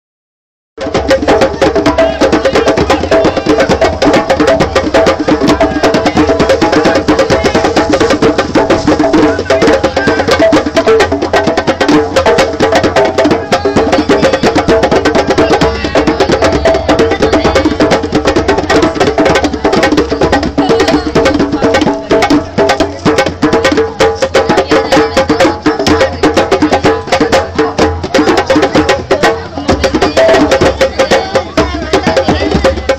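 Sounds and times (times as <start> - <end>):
djembes beaten fast: 0.8 - 32.9.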